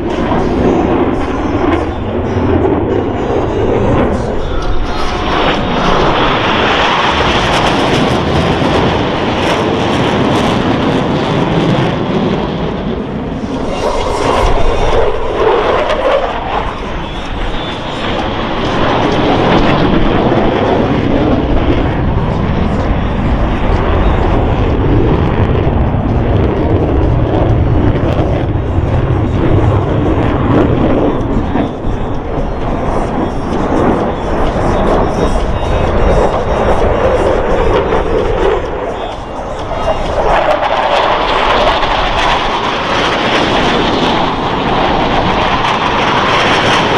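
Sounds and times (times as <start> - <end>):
jets flying overhead: 0.0 - 46.9.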